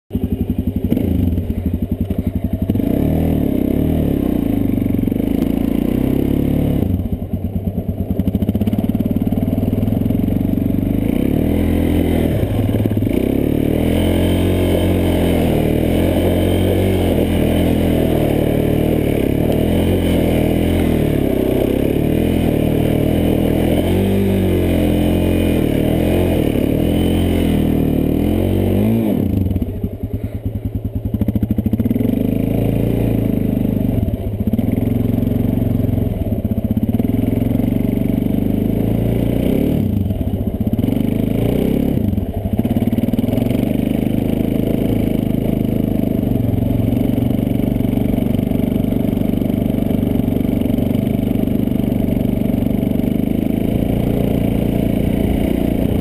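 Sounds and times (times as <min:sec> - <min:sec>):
quad engine revving: 0:00.1 - 0:56.0.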